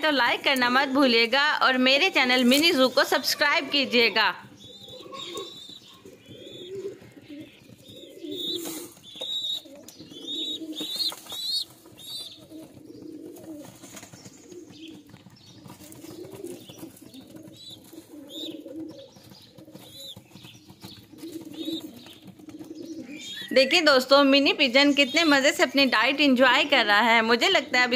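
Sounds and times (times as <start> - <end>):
pigeons cooing: 2.0 - 26.3.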